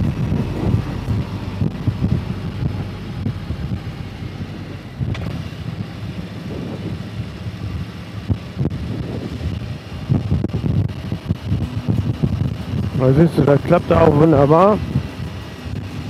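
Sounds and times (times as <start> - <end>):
motorcycle engine rumble: 0.0 - 16.0
wind buffeting on microphone: 0.0 - 16.0.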